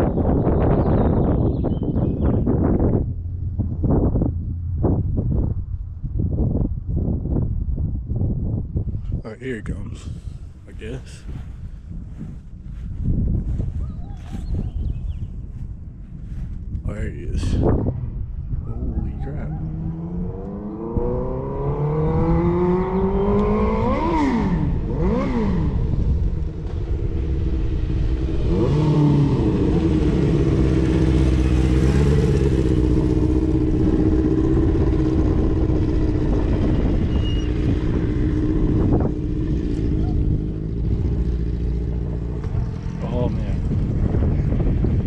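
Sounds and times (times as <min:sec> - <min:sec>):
motorcycle engine accelerating: 0:00.0 - 0:08.8, 0:17.6 - 0:45.0.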